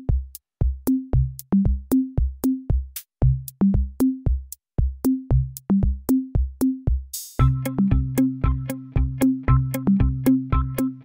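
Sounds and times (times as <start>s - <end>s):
drum-machine beat: 0.0s - 11.0s.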